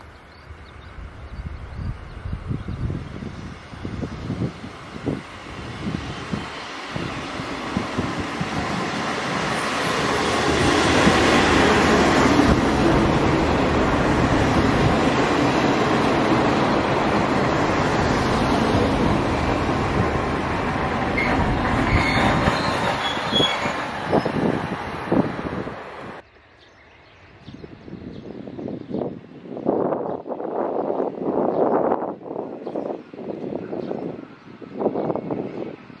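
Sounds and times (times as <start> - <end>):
diesel railcar passing: 0.0 - 27.4, 28.5 - 36.0.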